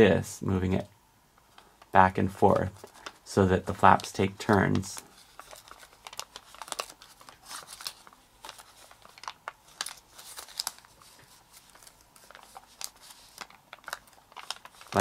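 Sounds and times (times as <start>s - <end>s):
paper crinkling: 1.5s - 15.0s.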